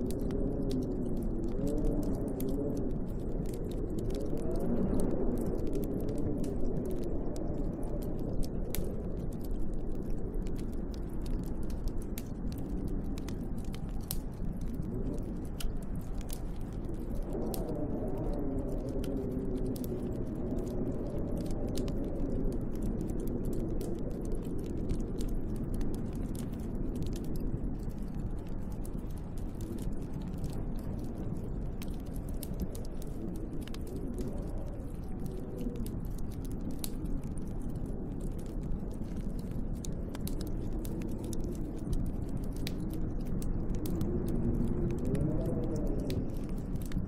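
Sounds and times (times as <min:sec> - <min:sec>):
storm wind howling: 0:00.0 - 0:47.0
wood fire crackling and popping: 0:00.0 - 0:47.0.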